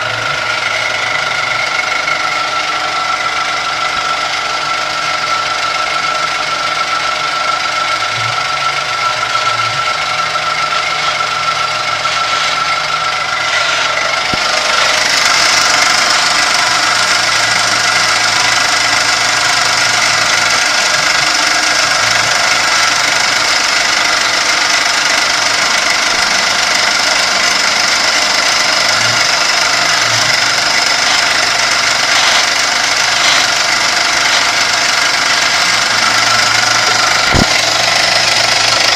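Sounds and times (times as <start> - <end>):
harsh machine noise: 0.0 - 38.9
machine whining: 0.0 - 38.9.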